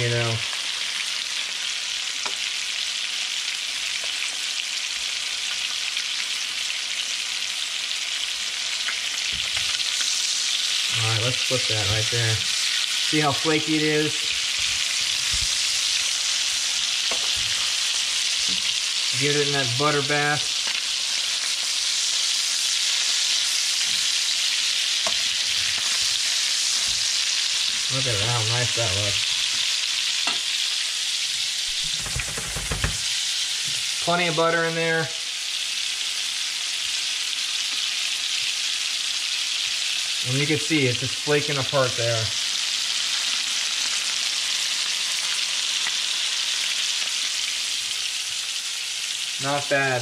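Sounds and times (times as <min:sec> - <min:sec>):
fish frying in butter: 0:00.0 - 0:50.0.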